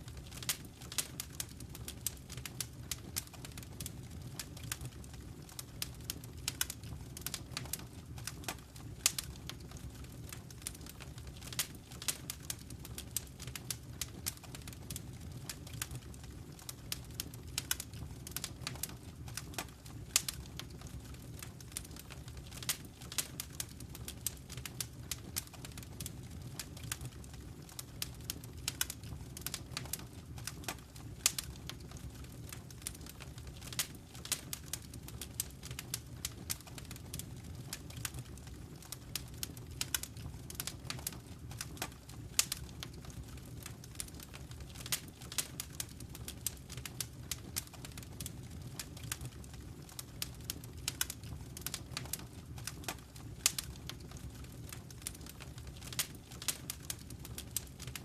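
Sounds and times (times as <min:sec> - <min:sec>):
fire crackling: 0:00.0 - 0:58.0.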